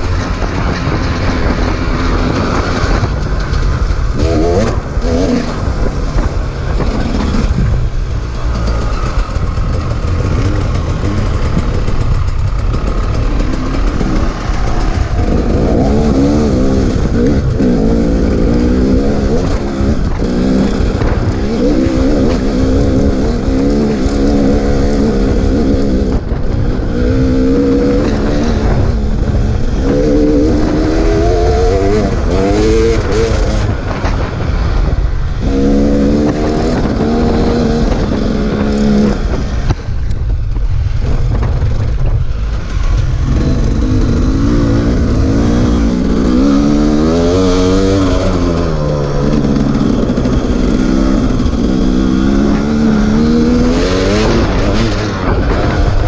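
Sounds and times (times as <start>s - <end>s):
dirt bike engine revving: 0.0s - 39.8s, 42.6s - 56.0s.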